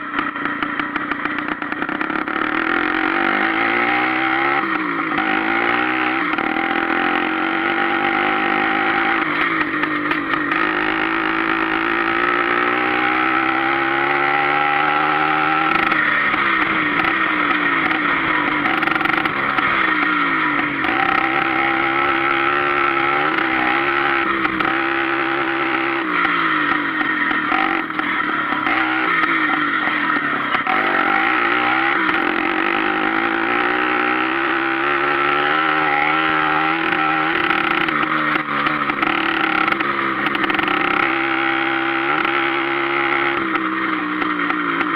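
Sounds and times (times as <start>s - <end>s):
two-stroke motorbike revving: 0.0s - 44.9s.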